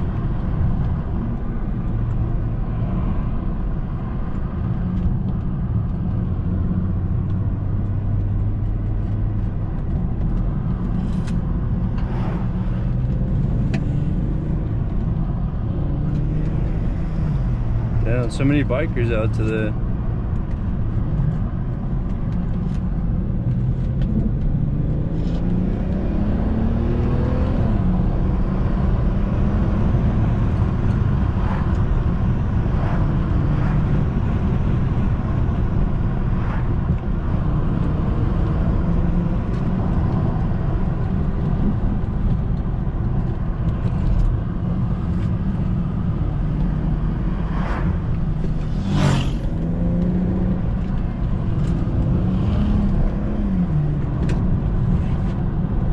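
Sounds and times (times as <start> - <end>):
car engine accelerating: 0.0 - 55.9
tyre and road noise: 0.0 - 55.9.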